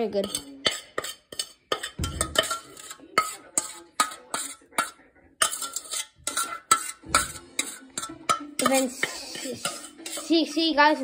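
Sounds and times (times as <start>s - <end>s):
utensil clinking against ceramic bowl: 0.0s - 11.0s.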